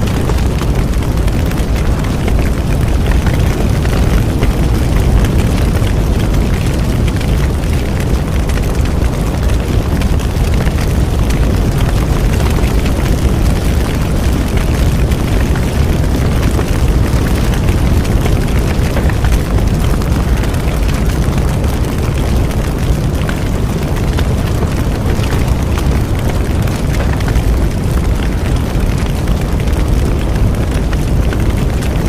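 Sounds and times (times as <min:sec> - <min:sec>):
bonfire flames roaring: 0:00.0 - 0:32.0
burning wood crackling: 0:00.0 - 0:32.0.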